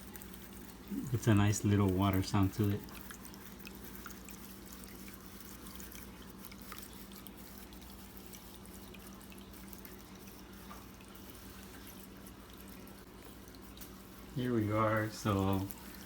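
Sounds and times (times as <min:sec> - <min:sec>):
small water drips: 0:00.0 - 0:16.0
water trickling: 0:00.0 - 0:16.0.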